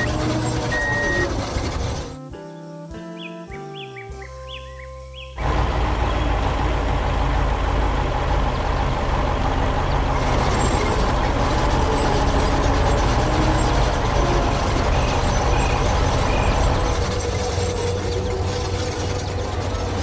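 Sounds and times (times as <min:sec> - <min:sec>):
mechanical clatter: 0:00.0 - 0:02.2, 0:05.4 - 0:20.0
heavy machinery engine rumble: 0:00.0 - 0:02.3, 0:05.4 - 0:20.0.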